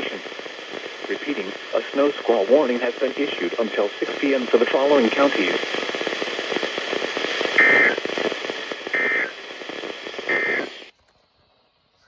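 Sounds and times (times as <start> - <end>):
radio static: 0.0 - 10.9
two-tone data bursts: 0.0 - 10.9.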